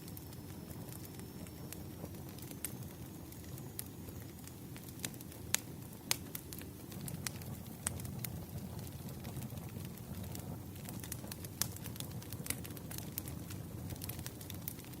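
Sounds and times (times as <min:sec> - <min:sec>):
burning wood popping and snapping: 0:00.0 - 0:15.0
low rumble of fire: 0:00.0 - 0:15.0.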